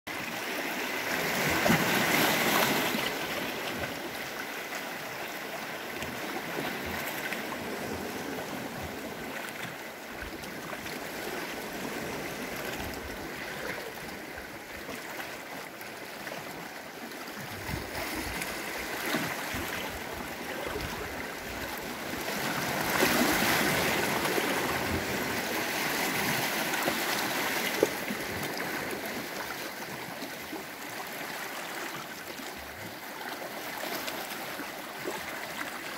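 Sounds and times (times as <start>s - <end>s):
waves lapping among rocks: 0.2s - 35.9s.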